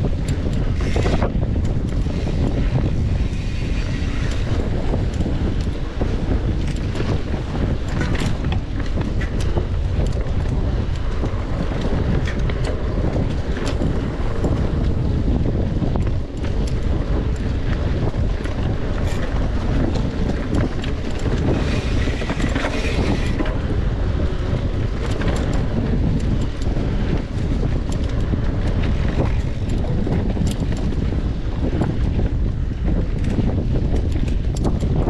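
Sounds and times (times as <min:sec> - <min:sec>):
bike clicks and rattles: 0:00.0 - 0:35.0
wind buffeting microphone: 0:00.0 - 0:35.0.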